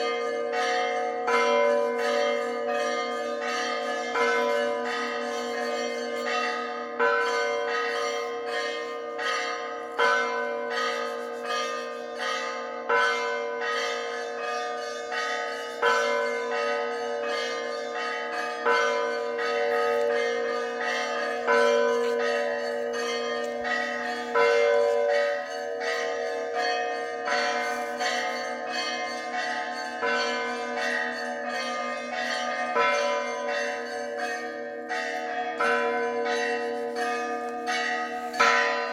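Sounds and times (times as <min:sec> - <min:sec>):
hum of large bells: 0:00.0 - 0:38.9.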